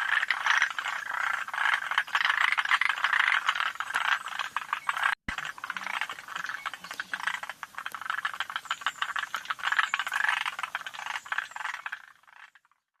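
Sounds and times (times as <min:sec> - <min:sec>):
tree frogs rattling clicks: 0:00.0 - 0:12.8.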